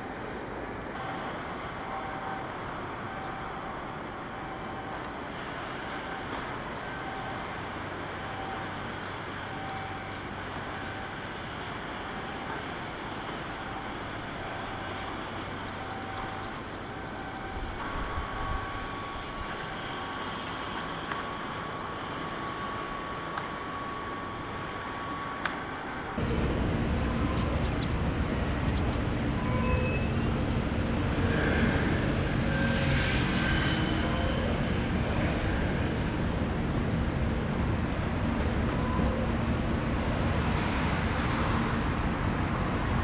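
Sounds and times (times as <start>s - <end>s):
shipyard background noise: 0.0s - 43.0s.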